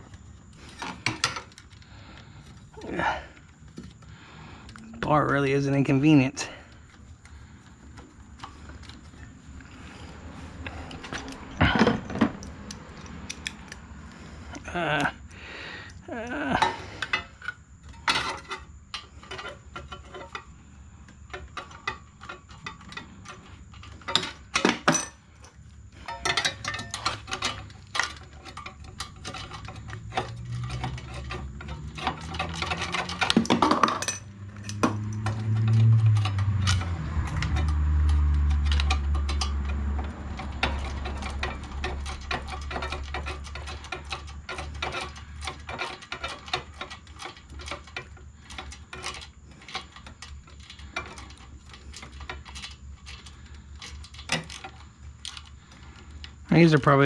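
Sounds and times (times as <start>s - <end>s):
metal tools clinking: 0.2s - 15.3s, 15.9s - 57.0s.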